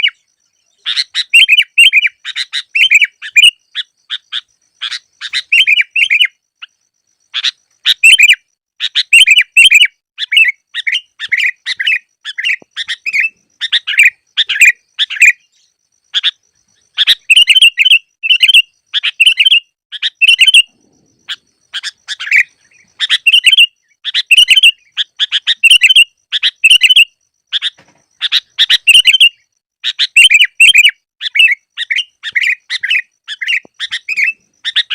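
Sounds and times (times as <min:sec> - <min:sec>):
bulbul chirping calls: 0:00.0 - 0:34.9.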